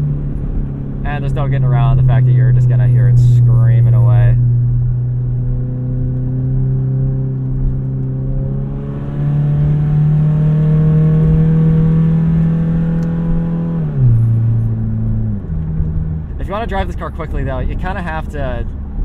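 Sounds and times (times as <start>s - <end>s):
car engine at full throttle: 0.0s - 19.0s
unsilenced exhaust roar: 0.0s - 19.0s.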